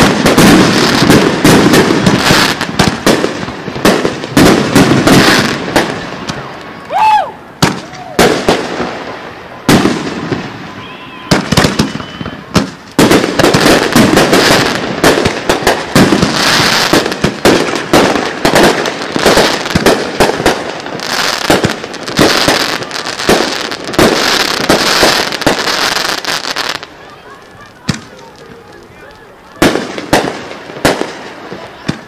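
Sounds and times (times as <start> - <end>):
fireworks bangs: 0.0 - 32.0
fireworks crackle: 0.0 - 32.0.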